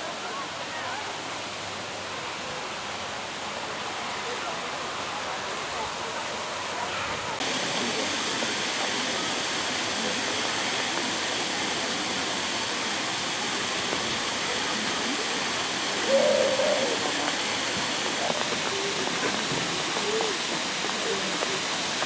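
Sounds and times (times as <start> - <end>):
falling water rushing: 0.0 - 22.0.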